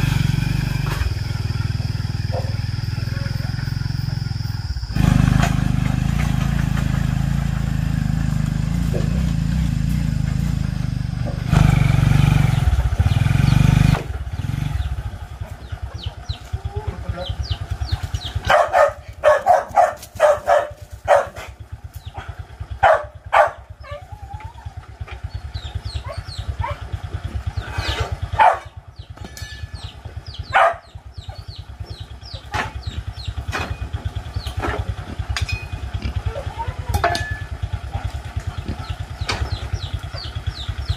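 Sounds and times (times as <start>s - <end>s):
motorbike engine idling: 0.0s - 40.9s.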